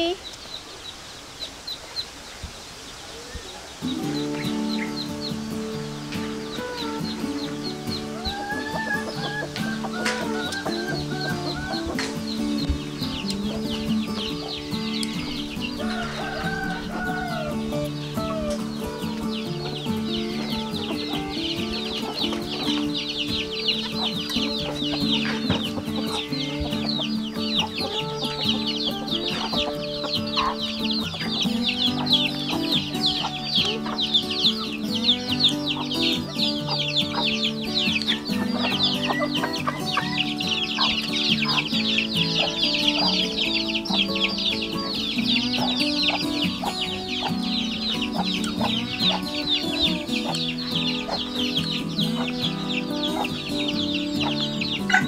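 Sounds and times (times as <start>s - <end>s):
birds chirping: 0.0s - 55.0s
background music of low notes: 3.8s - 55.0s.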